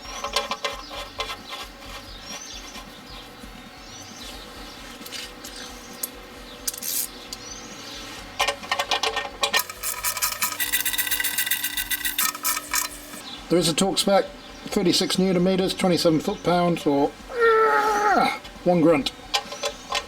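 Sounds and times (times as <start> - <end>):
birds chirping: 0.0 - 9.5, 10.6 - 20.0.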